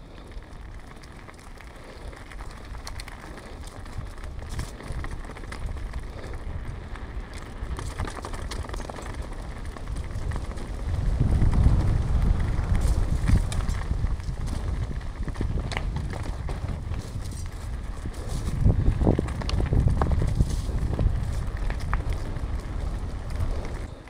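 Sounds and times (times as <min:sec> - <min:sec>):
bike chain and frame rattling: 0:00.0 - 0:24.0
bike tyre rolling noise: 0:00.0 - 0:24.0
wind rumble on microphone: 0:00.0 - 0:24.0.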